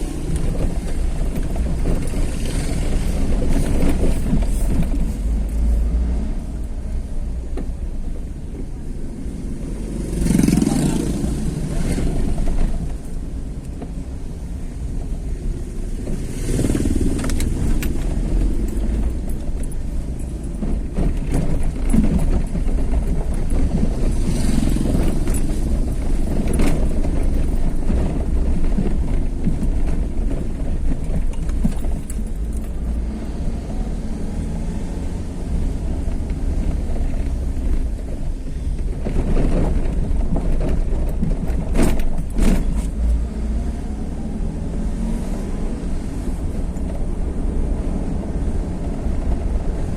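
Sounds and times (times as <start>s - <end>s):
passing vehicle noise: 0.0s - 49.9s
vehicle engine and road rumble: 0.0s - 49.9s.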